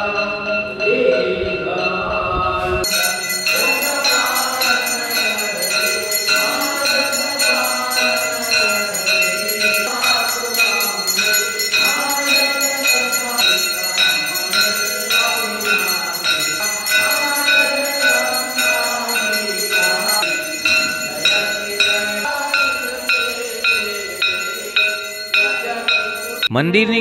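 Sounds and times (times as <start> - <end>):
voices singing: 0.0 - 27.0.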